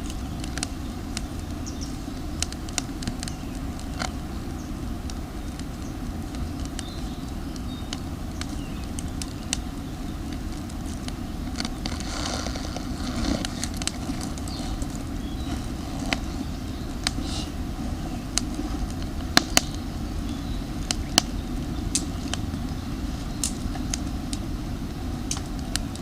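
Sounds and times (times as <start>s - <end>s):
campfire crackling: 0.0s - 26.0s
sharp pops of fire: 0.0s - 26.0s
steady low rumble: 0.0s - 26.0s.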